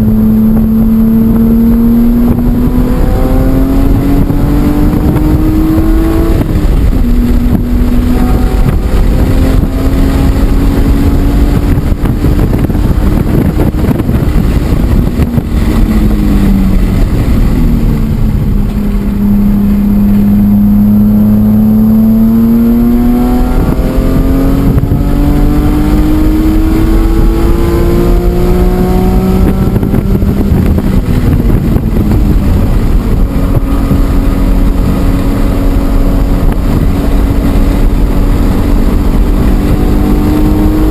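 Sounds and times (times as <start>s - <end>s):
racing car engine revving: 0.0s - 40.9s
wind and road rush: 0.0s - 40.9s.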